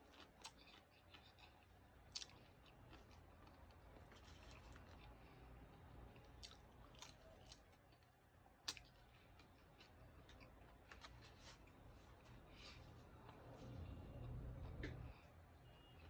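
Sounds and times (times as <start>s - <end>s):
person chewing: 0.0s - 15.3s.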